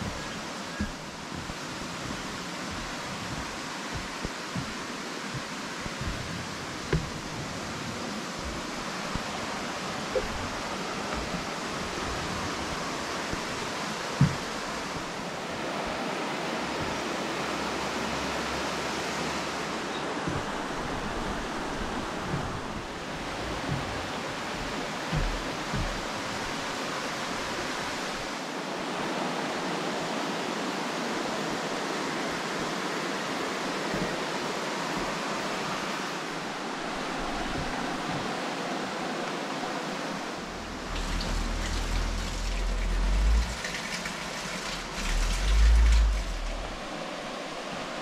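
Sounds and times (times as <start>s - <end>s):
steady rain in forest: 0.0s - 48.0s.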